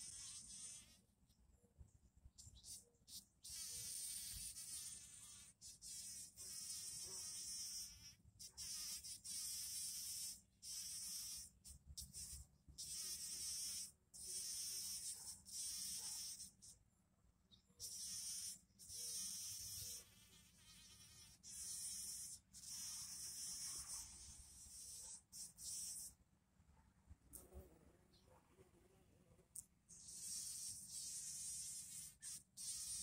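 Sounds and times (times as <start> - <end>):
bumblebee buzzing: 0.0 - 1.0, 2.6 - 16.7, 17.8 - 26.2, 29.5 - 33.0.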